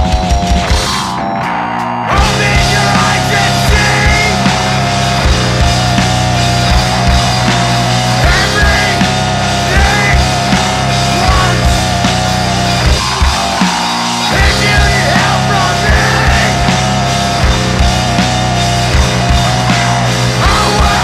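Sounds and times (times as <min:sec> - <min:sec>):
steady drum beat: 0:00.0 - 0:01.2, 0:02.1 - 0:21.0
heavy rock band music: 0:00.0 - 0:21.0.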